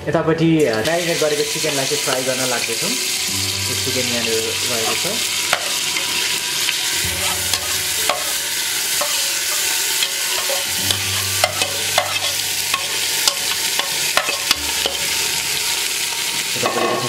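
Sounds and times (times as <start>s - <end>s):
chicken sizzling in hot fat: 0.6s - 17.0s.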